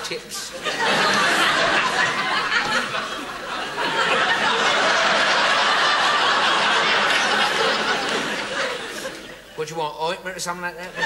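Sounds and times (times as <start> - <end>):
studio audience laughing: 0.3 - 9.6.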